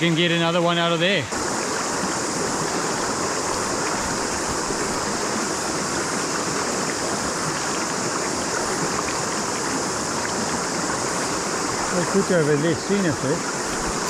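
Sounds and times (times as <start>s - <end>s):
river water rushing: 0.0s - 14.0s
high hiss: 0.3s - 14.0s.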